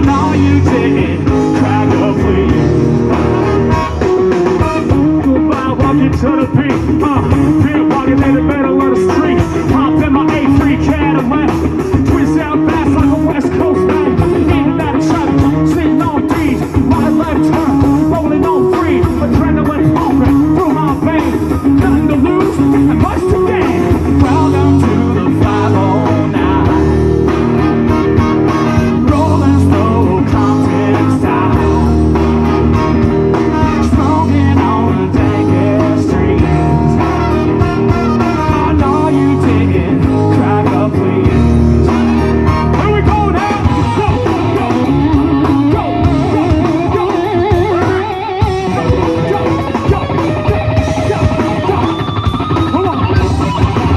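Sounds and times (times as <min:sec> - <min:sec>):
live rock band playing: 0:00.0 - 0:53.9
person singing into a microphone: 0:00.0 - 0:53.9.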